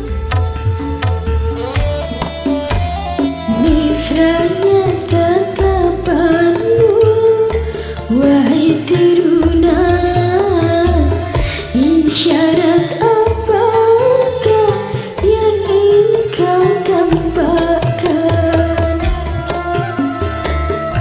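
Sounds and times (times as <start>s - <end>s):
hand-drum percussion: 0.0s - 21.0s
karaoke backing track: 0.0s - 21.0s
person singing: 1.5s - 21.0s.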